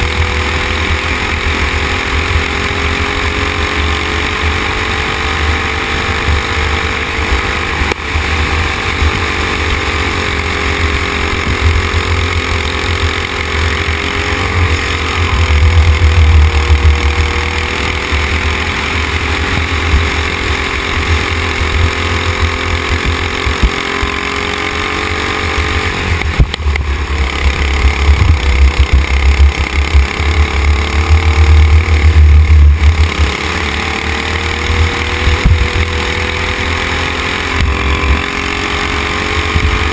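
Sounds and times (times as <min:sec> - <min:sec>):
racing kart engine at high revs: 0:00.0 - 0:39.9.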